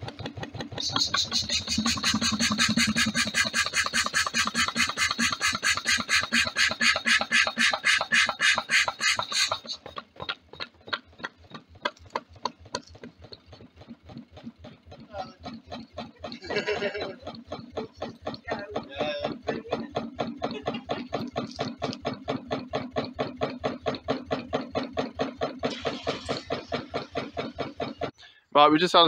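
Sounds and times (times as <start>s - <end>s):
stirling engine chuffing: 0.0s - 28.2s.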